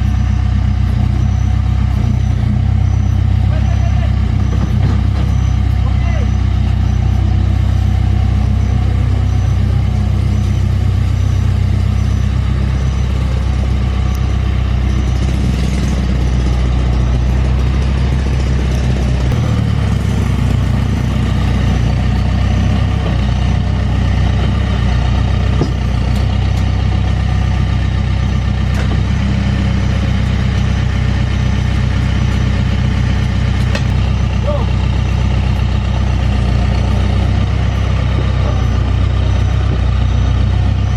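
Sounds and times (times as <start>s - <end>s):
heavy diesel engine idling: 0.0s - 40.9s.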